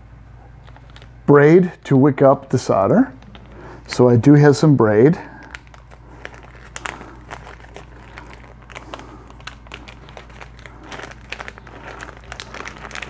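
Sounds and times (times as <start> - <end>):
plastic packaging crinkling: 0.4 - 2.0, 3.1 - 13.0.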